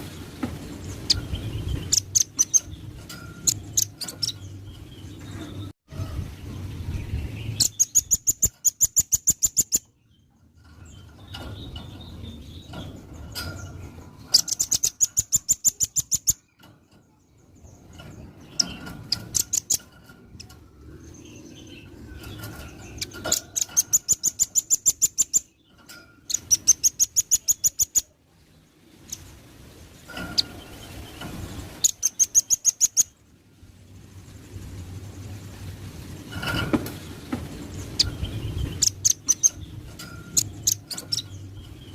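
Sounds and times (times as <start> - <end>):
bird singing rapid trills: 0.8 - 5.8, 6.5 - 28.2, 28.8 - 35.5, 36.1 - 41.9.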